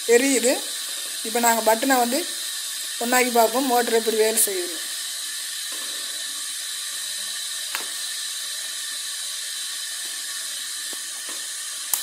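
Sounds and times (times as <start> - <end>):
steady fan hiss: 0.0 - 12.0.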